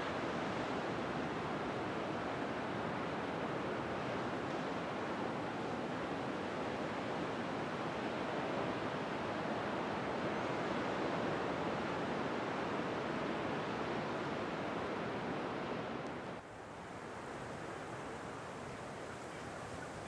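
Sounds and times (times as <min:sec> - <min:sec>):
waves breaking on a beach: 0:00.0 - 0:20.0.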